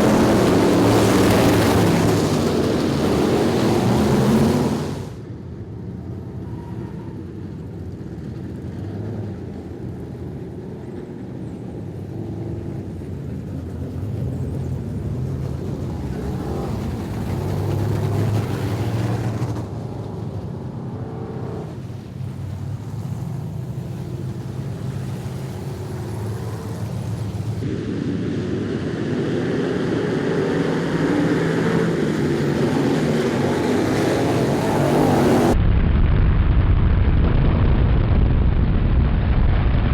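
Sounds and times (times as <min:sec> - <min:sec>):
race car engines passing: 0:00.0 - 0:05.3, 0:06.0 - 0:35.6.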